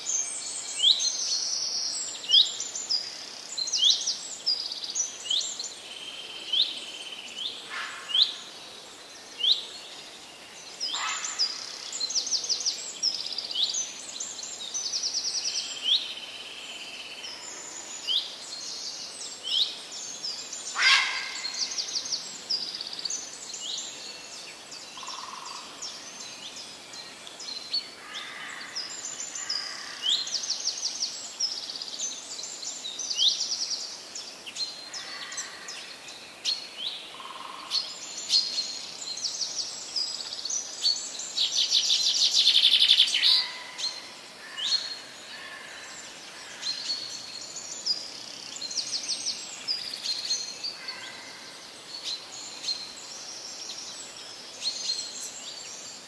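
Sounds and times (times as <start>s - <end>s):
songbirds singing: 0.0s - 56.0s
steady hiss: 0.0s - 56.0s.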